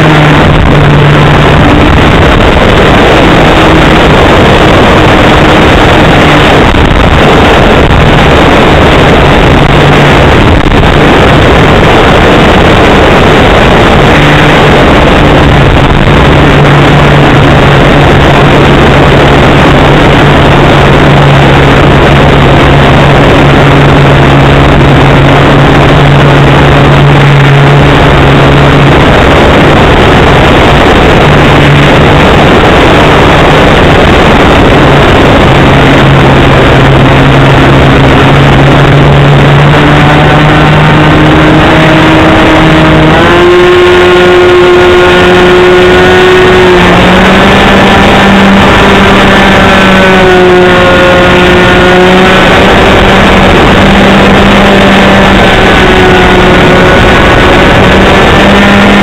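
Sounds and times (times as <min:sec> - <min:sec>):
model airplane engine running: 0:00.0 - 0:59.0
wind rush: 0:00.0 - 0:59.0.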